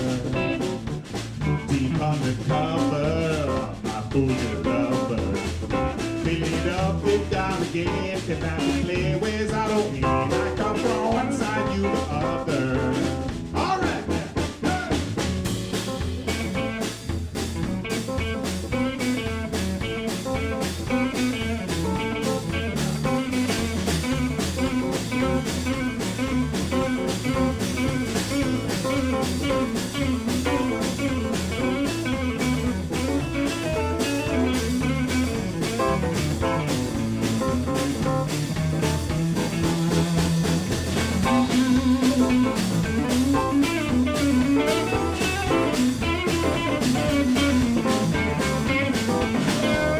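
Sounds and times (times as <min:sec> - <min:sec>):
blues band playing: 0:00.0 - 0:49.9.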